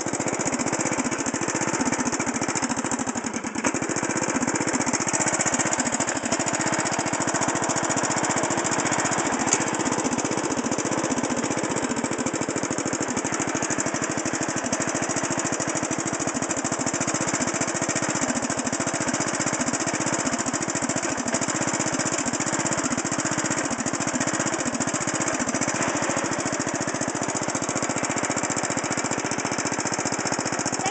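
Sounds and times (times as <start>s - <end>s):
small mower engine running: 0.0s - 30.9s.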